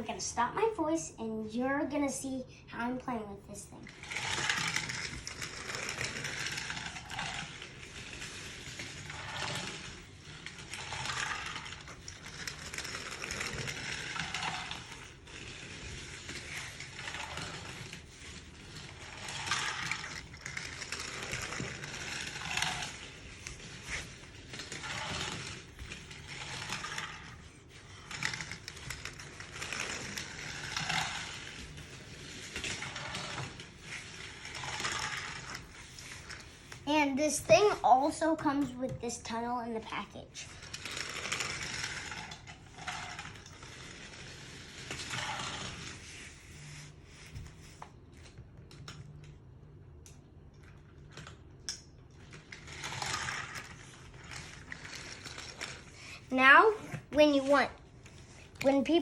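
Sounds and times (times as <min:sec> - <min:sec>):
toy train rattling on wooden track: 0:03.9 - 0:46.4, 0:51.1 - 0:59.0.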